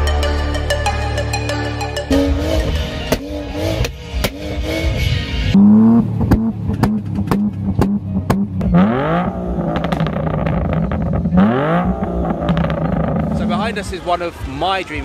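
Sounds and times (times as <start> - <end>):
sports car engine idling and revving: 2.0 - 14.6.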